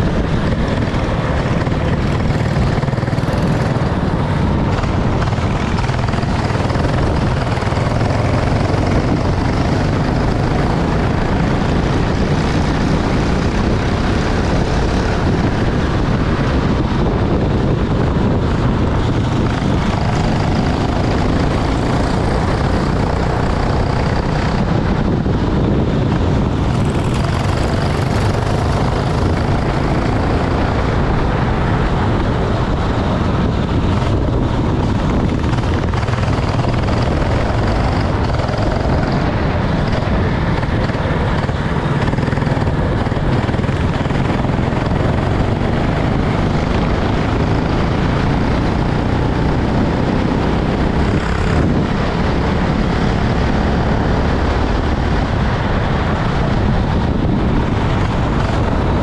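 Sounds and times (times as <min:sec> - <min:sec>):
racing kart engine droning: 0:00.0 - 0:59.0
rushing noise: 0:00.0 - 0:59.0.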